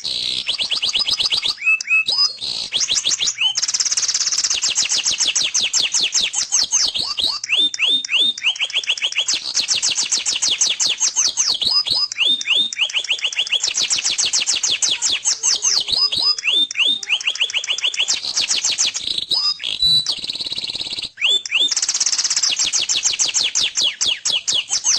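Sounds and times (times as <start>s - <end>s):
canary singing trills: 0.0s - 24.9s.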